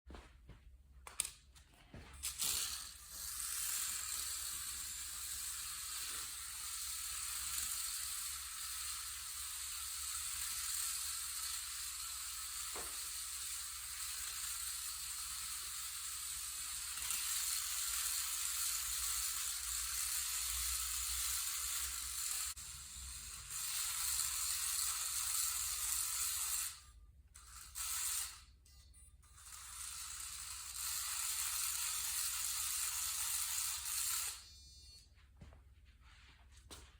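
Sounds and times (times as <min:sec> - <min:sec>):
toy car motor whirring: 0:02.2 - 0:35.1.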